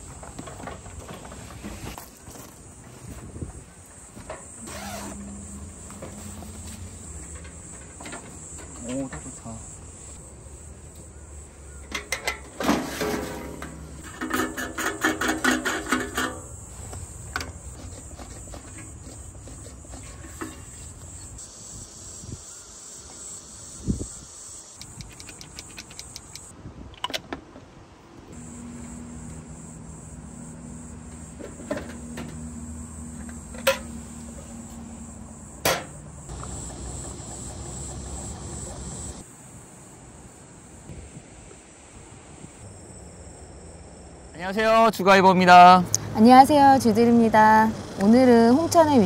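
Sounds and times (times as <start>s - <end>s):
crickets chirping: 0.0s - 26.6s, 27.8s - 49.0s.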